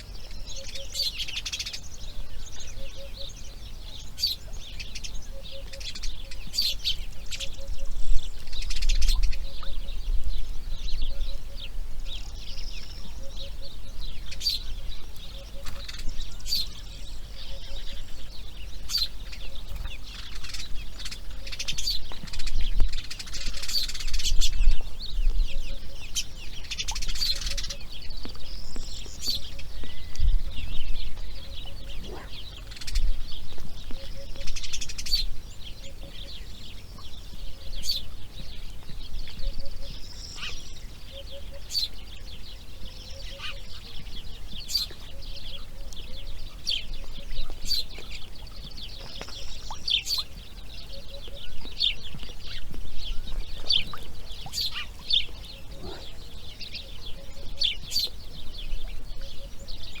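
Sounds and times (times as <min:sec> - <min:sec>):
birds chirping and trilling: 0:00.0 - 1:00.0.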